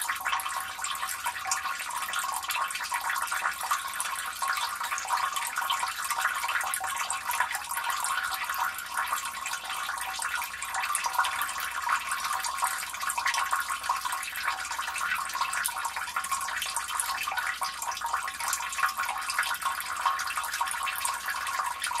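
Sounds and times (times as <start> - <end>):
water splashing into drain: 0.0 - 22.0.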